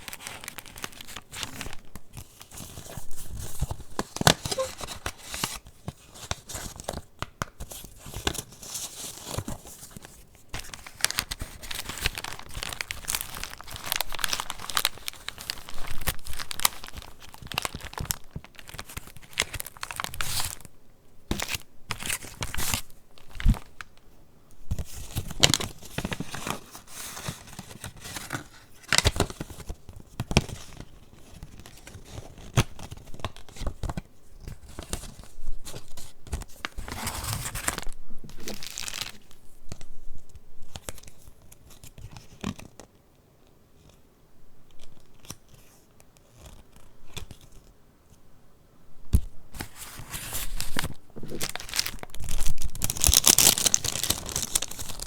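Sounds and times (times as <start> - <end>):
paper pages rustling and snapping: 0.0 - 20.7, 21.3 - 24.0, 24.7 - 39.9, 44.8 - 47.7, 49.1 - 55.0.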